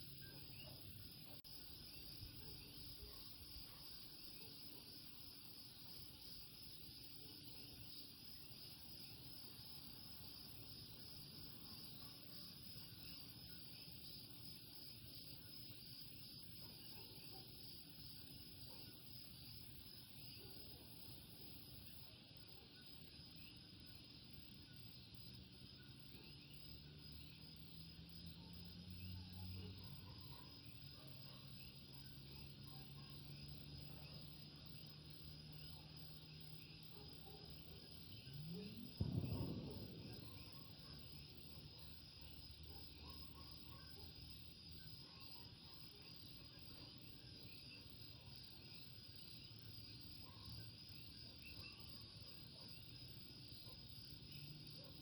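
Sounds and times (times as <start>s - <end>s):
high insect trill: 0.0s - 55.0s.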